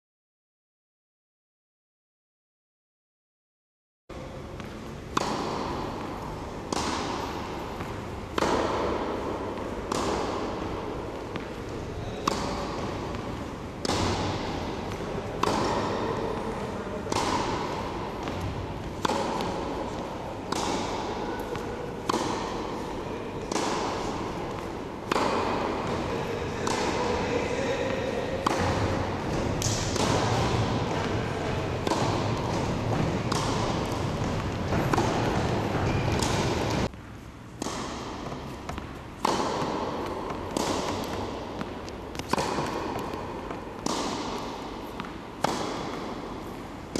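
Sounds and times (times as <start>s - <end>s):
tennis ball hit by rackets: 4.6s - 46.9s.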